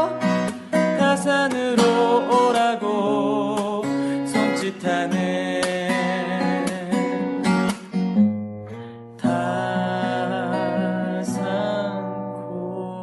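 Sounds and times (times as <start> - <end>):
song with strummed acoustic guitar: 0.0 - 13.0.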